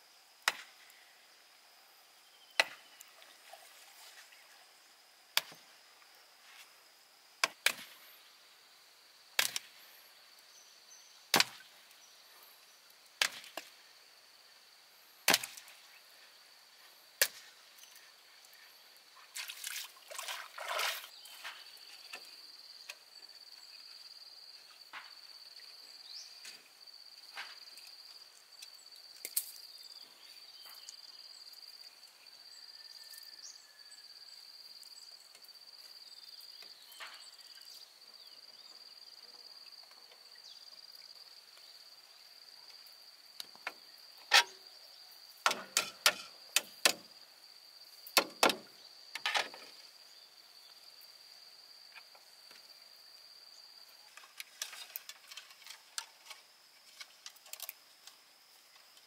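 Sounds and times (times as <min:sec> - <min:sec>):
insects singing: 0:07.4 - 0:59.0.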